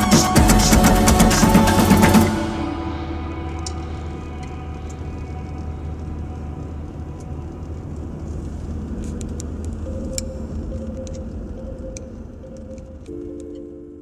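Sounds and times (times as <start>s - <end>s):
car engine and road rumble: 0.0s - 13.2s
faint held tone: 0.0s - 14.0s.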